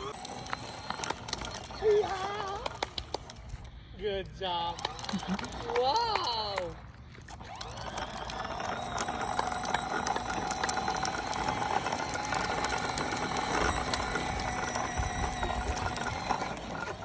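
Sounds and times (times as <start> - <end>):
small motor whining: 0.0 - 3.7, 4.7 - 17.0.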